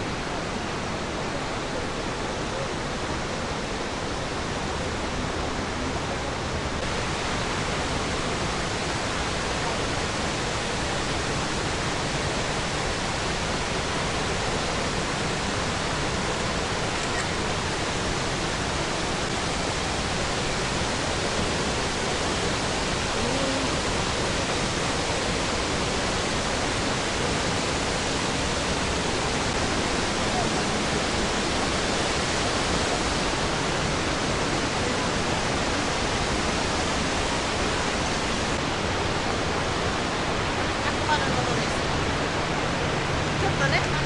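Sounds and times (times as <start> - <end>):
rush of falling water: 0.0 - 44.0.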